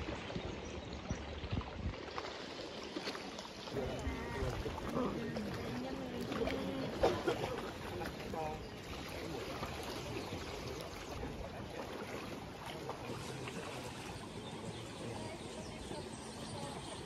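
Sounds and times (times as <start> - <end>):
sea water lapping and splashing: 0.0 - 17.0.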